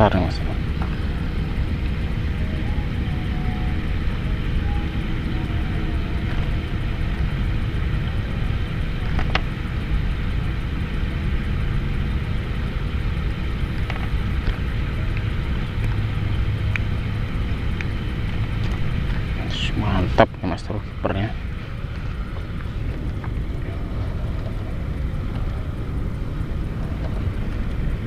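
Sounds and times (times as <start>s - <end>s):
wind rumble on microphone: 0.0s - 28.0s
faint ticks: 0.1s - 28.0s.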